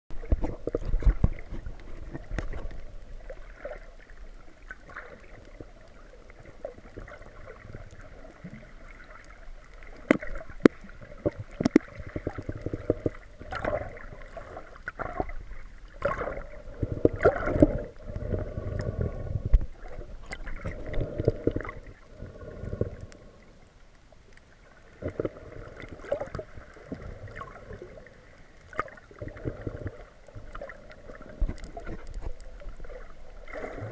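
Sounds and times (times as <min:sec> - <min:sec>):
water sloshing underwater: 0:00.1 - 0:33.9.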